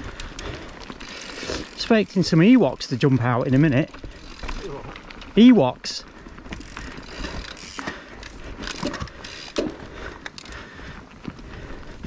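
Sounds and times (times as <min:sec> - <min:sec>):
bike knocking and rattling: 0:00.0 - 0:12.0
tyre noise on dirt: 0:00.0 - 0:12.0.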